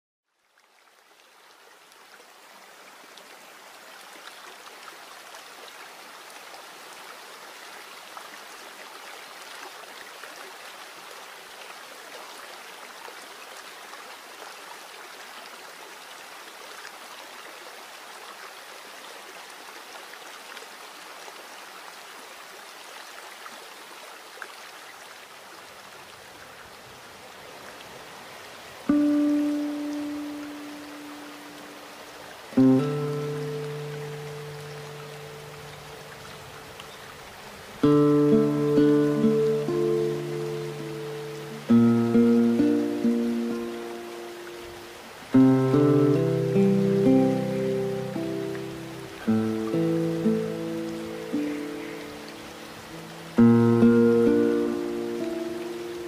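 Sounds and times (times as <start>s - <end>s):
creek water rushing over stones: 0.3s - 56.0s.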